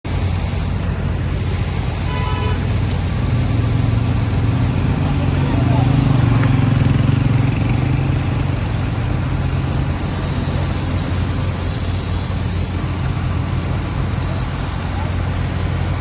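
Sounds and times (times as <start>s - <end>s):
road paving machine engine running: 0.0s - 16.0s.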